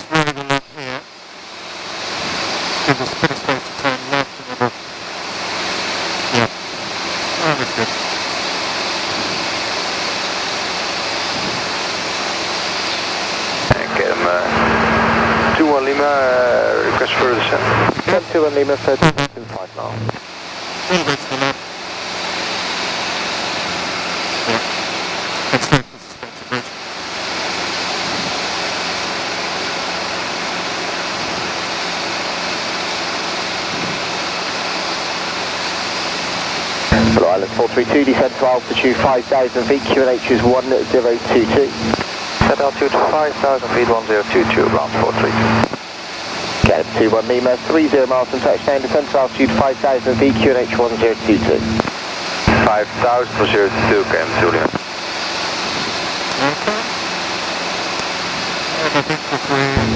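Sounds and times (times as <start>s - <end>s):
engine and rotor drone: 0.0s - 59.9s
helicopter cabin roar: 0.0s - 59.9s.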